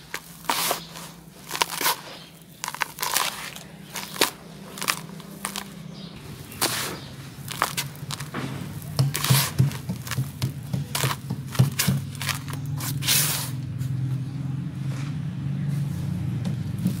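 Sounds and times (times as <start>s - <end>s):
dry dirt crunching and pouring: 0.0s - 13.7s, 15.8s - 17.0s.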